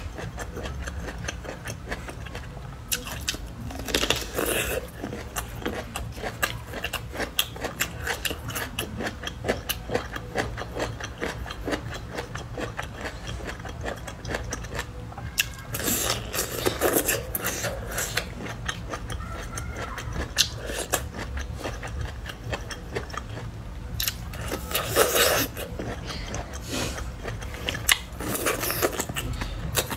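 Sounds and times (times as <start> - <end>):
crunchy chewing: 0.0 - 29.9
husks crackling as peeled: 0.0 - 29.9.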